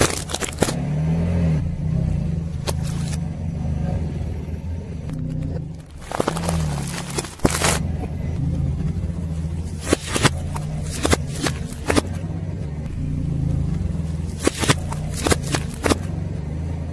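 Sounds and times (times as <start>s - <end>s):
tyre crushing objects: 0.0s - 3.3s, 5.1s - 16.4s
car engine at low revs: 0.0s - 16.9s.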